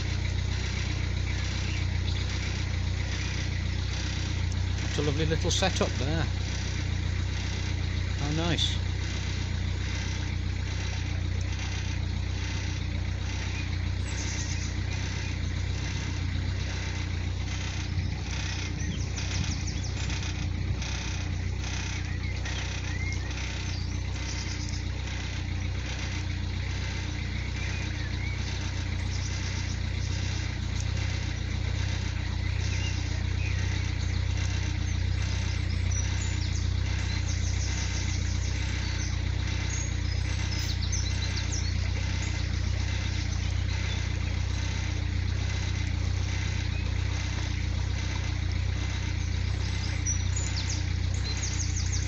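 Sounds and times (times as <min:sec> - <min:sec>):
boat engine running steadily: 0:00.0 - 0:52.0.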